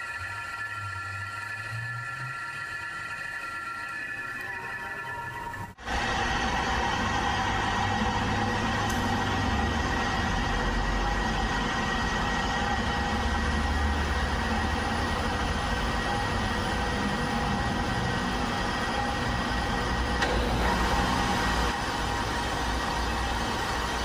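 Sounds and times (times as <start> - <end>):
lathe humming: 0.0 - 24.0.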